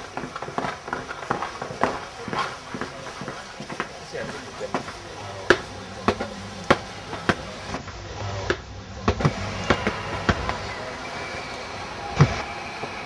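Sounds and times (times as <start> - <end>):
footsteps on hard stairs: 0.0 - 11.3, 12.0 - 13.0.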